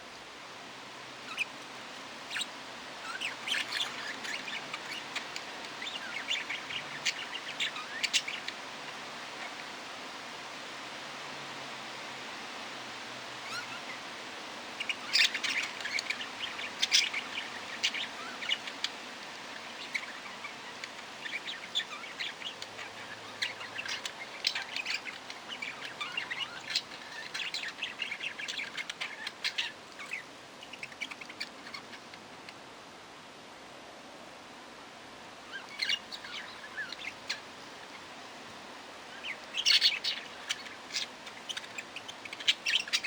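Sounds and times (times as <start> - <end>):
steady hiss: 0.0 - 43.0
small parrots chirping: 1.2 - 10.2, 13.4 - 32.6, 35.5 - 43.0.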